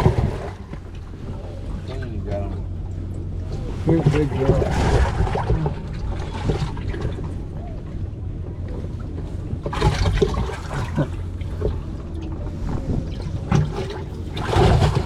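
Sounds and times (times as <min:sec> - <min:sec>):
low rumble: 0:00.0 - 0:15.0
water sloshing and splashing: 0:00.0 - 0:15.0.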